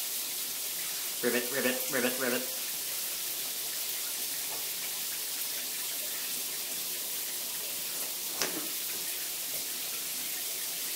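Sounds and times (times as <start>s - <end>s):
shower water running into bathtub: 0.0s - 10.9s.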